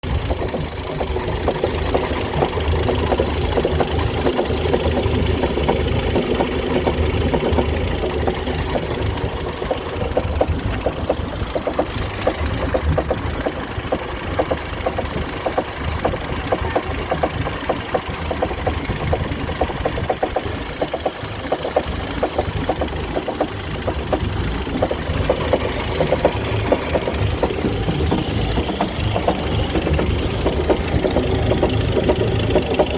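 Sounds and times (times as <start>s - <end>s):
clucking engine knock: 0.0s - 32.9s
marine engine idling: 0.0s - 32.9s.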